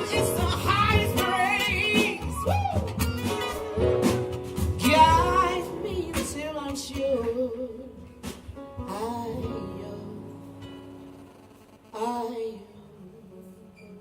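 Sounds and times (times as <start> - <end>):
jazz band playing: 0.0 - 11.9.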